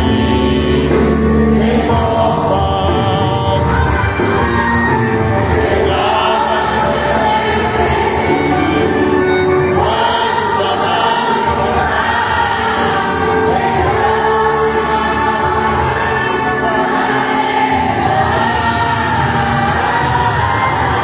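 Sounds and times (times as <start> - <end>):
group singing a hymn: 0.0 - 21.0.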